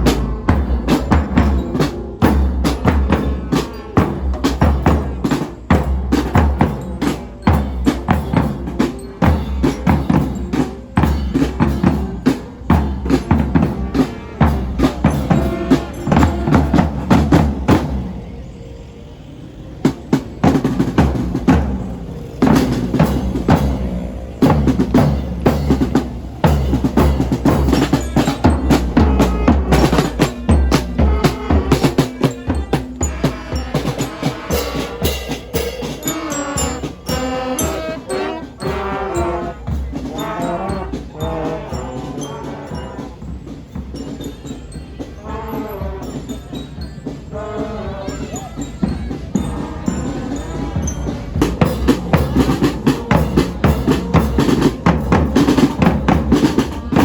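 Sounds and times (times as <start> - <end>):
rapid drum-led percussion music: 0.0 - 18.5, 19.5 - 57.0.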